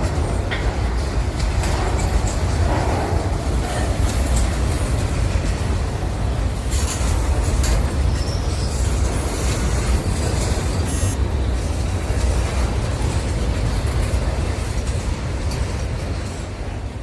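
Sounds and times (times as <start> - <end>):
faint metallic rail noise: 0.0 - 17.0
train wheels rumbling on rails: 0.0 - 17.0.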